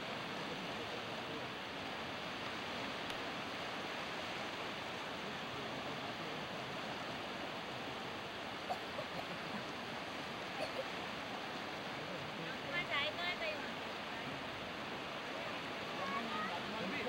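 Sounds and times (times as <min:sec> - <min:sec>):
sea surf: 0:00.0 - 0:17.0
wind: 0:00.0 - 0:17.0.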